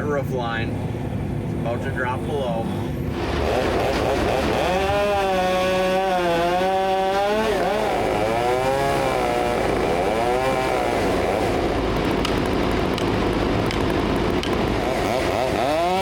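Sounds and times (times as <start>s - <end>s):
chainsaw running at high revs: 3.1s - 16.0s.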